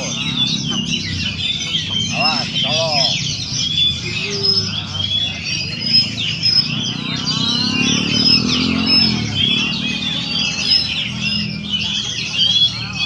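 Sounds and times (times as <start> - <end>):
songbird chirping and whistling: 0.0 - 13.0
vehicle engine: 0.0 - 13.0.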